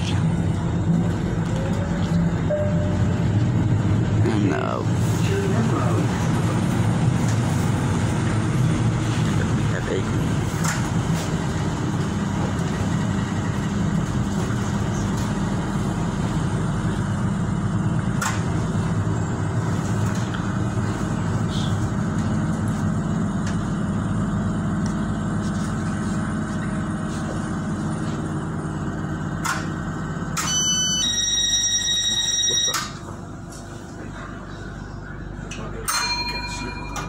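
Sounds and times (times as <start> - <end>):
train wheels rumbling: 0.0 - 30.5.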